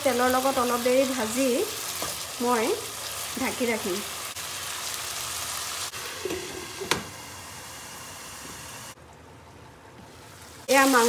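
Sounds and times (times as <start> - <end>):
food sizzling in a pan: 0.0 - 9.0, 10.1 - 11.0.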